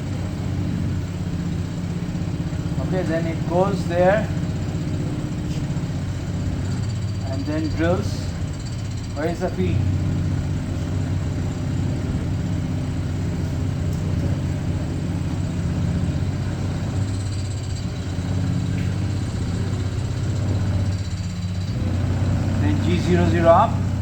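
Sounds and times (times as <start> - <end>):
idling shop machinery hum: 0.0 - 24.0.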